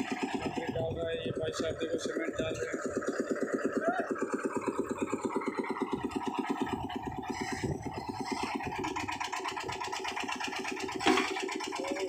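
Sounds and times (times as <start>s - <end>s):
concrete mixer engine thudding: 0.0s - 12.0s.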